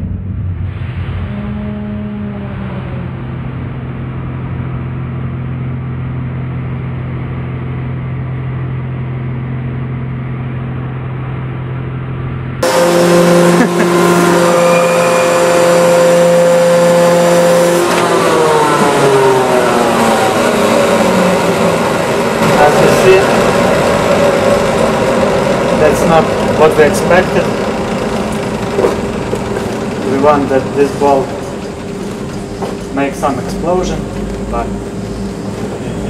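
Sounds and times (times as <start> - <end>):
hydraulic pump motor humming: 1.2 - 36.0.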